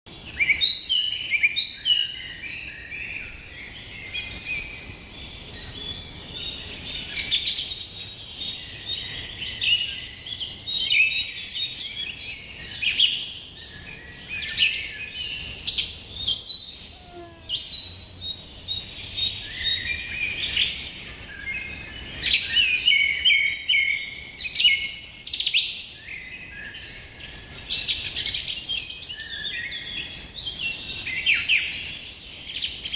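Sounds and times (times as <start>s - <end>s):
birds chirping and trilling: 0.1s - 32.9s.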